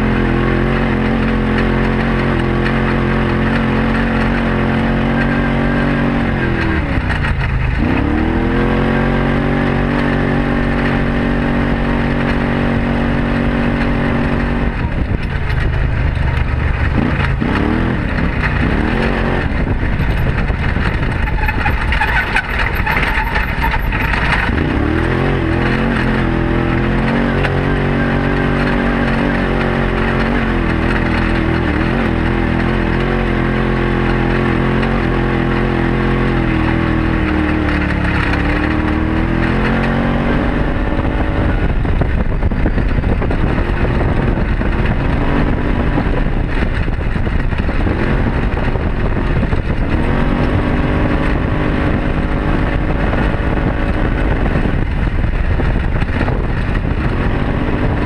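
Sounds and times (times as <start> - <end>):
vehicle engine running under load: 0.0 - 58.0.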